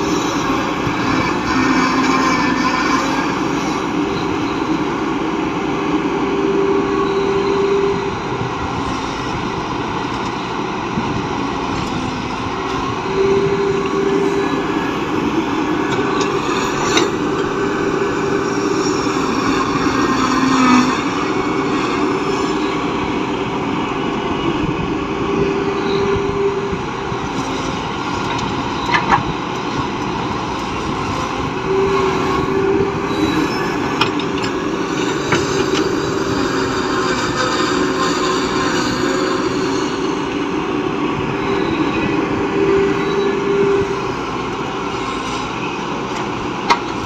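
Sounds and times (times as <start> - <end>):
droning tone: 0.0 - 47.0
excavator engine running: 0.0 - 47.0.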